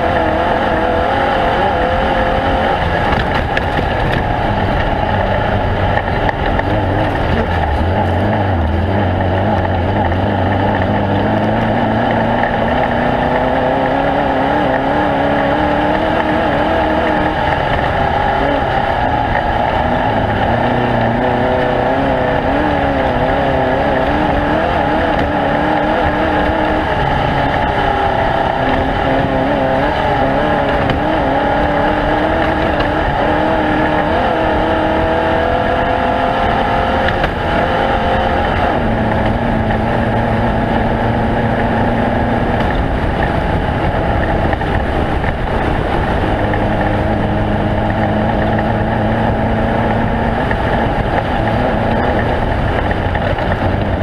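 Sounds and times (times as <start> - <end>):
race vehicle engine running hard: 0.0 - 54.0.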